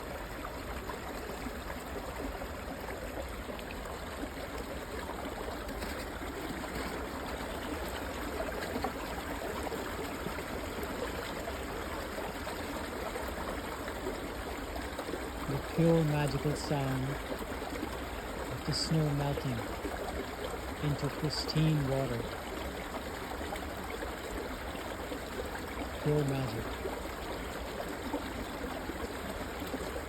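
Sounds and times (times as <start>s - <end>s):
small stream trickling and gurgling: 0.0s - 30.0s.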